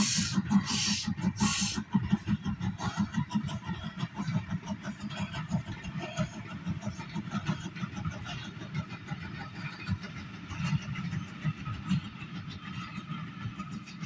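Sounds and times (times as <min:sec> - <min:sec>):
coaches rumbling on rails: 0:00.0 - 0:14.0
steam locomotive exhaust beats: 0:00.0 - 0:14.0.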